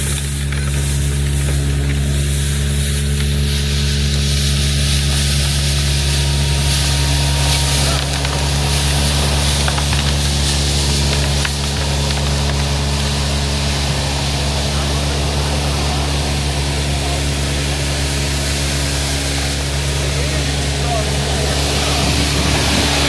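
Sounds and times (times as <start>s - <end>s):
vacuum excavator engine droning: 0.0s - 23.0s.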